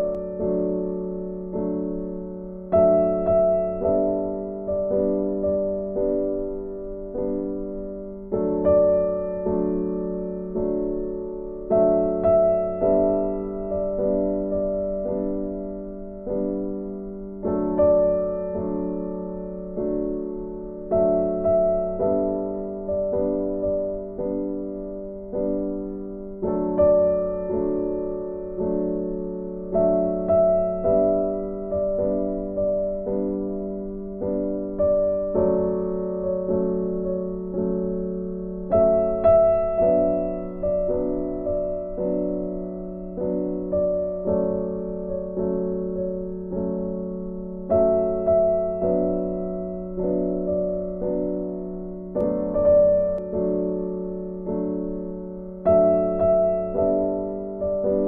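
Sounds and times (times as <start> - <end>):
slow gentle piano chords: 0.0 - 58.0.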